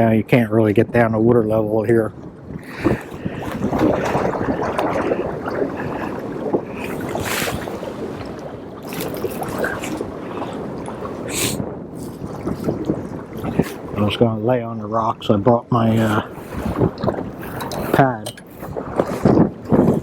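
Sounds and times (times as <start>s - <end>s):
wind and water rushing: 0.0s - 20.0s.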